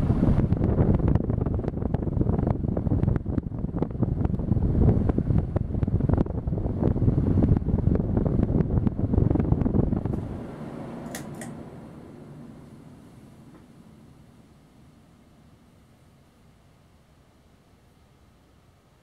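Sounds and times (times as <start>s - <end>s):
fan wind buffeting microphone: 0.0s - 17.3s.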